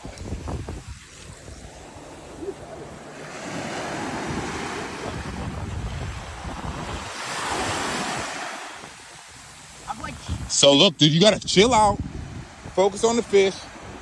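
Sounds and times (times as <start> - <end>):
ocean surf washing onto beach: 0.0 - 14.0
wind on microphone: 0.0 - 14.0.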